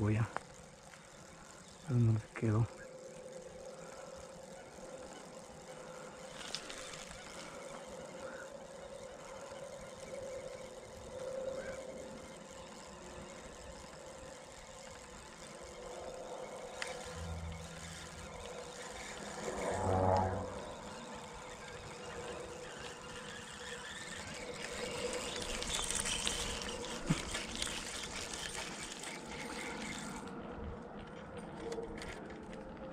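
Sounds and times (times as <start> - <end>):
faint engine-like hum: 0.0 - 32.9.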